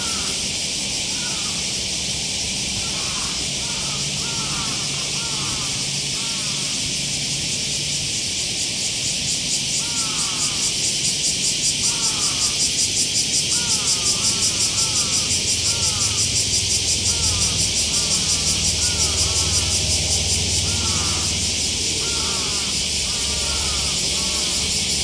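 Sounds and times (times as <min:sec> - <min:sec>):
high pulsing insect chorus: 0:00.0 - 0:25.0.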